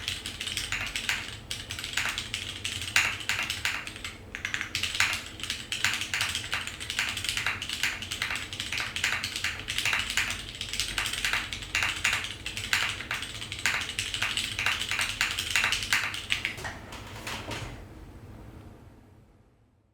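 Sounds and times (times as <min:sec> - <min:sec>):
fast typing on mechanical keyboard: 0:00.0 - 0:17.7.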